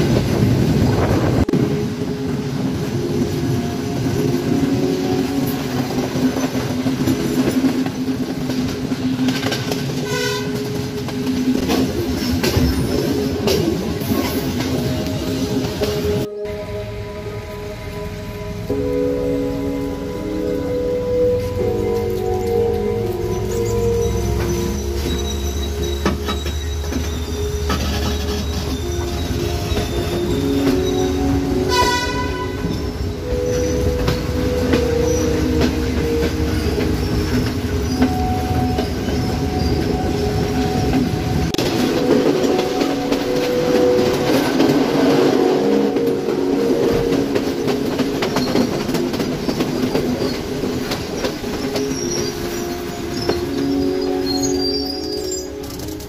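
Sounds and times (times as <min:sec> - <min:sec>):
train wheels rumbling on rails: 0:00.0 - 0:56.0
long held tones: 0:01.3 - 0:11.8, 0:14.8 - 0:56.0.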